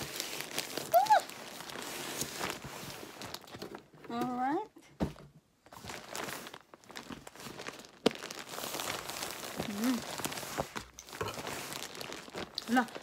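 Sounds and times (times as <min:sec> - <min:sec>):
plastic and tape crinkling: 0:00.0 - 0:04.6, 0:05.5 - 0:13.0.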